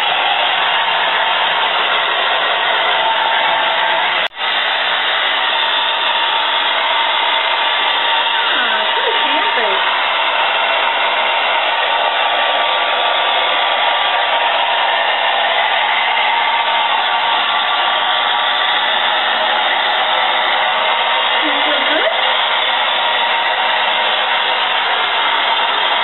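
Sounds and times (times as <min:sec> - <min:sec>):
blow dryer running: 0:00.0 - 0:26.0.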